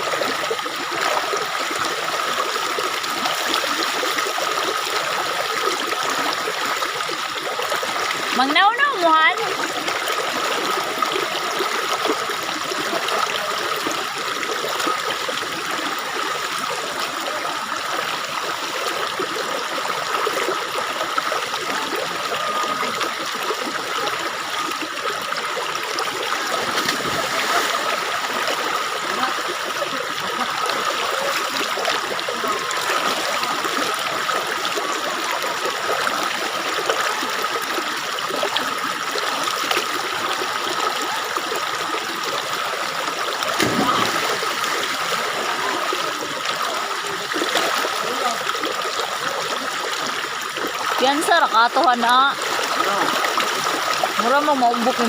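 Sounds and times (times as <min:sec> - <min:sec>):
water flowing and trickling: 0:00.0 - 0:55.0.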